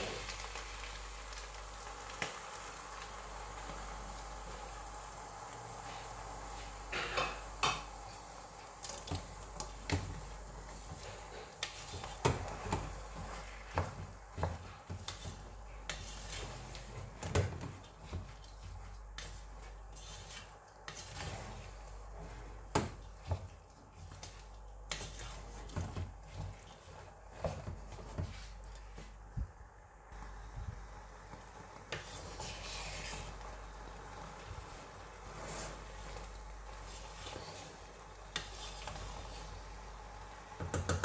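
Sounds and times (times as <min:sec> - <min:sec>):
wooden spoon stirring rice in pot: 0:00.0 - 0:29.4, 0:30.1 - 0:41.0.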